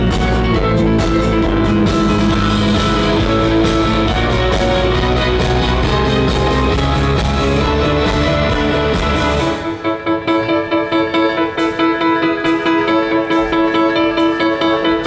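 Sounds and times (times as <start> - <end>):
drums: 0.0 - 15.0
electric guitar: 0.0 - 15.0
rock band playing live: 0.0 - 15.0.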